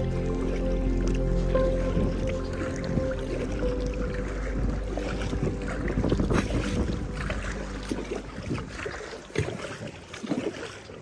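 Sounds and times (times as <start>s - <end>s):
background music: 0.0s - 9.4s
paddle splashing in water: 0.0s - 11.0s.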